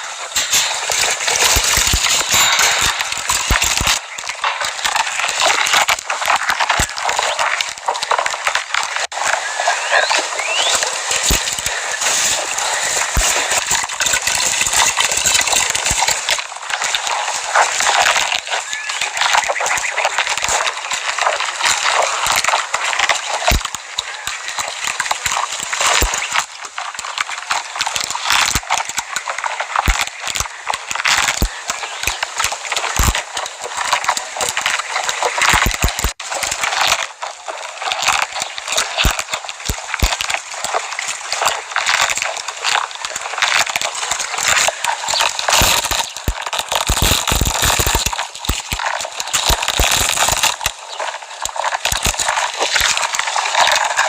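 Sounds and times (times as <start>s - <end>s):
camel chewing cactus: 0.0s - 54.0s.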